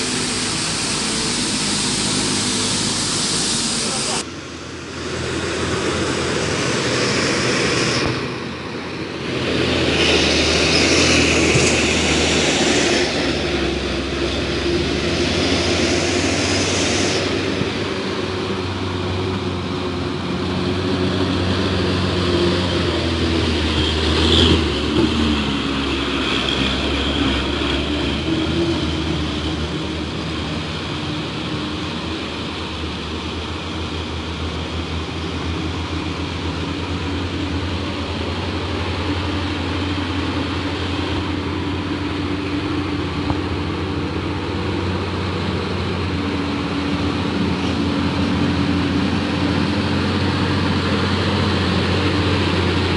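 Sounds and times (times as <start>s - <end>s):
truck diesel engine running: 0.0s - 52.9s
tyres hissing on wet road: 0.0s - 52.9s.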